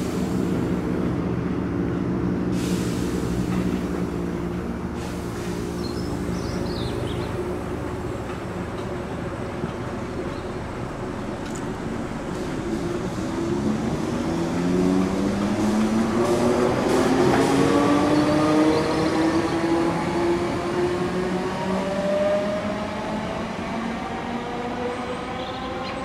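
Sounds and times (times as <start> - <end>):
wheels rumbling on rail: 0.0 - 26.0.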